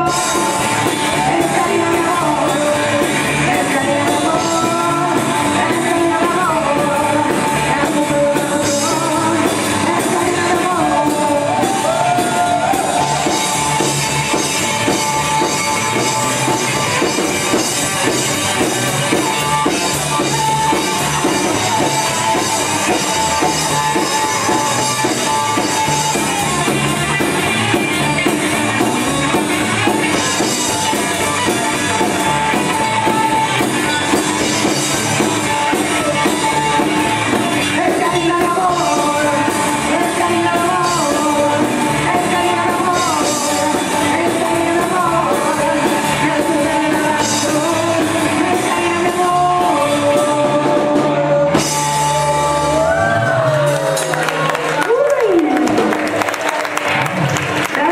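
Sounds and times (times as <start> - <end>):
drum kit: 0.0 - 57.9
guitar: 0.0 - 57.9
person singing: 0.0 - 57.9
rockabilly band playing live: 0.0 - 57.9.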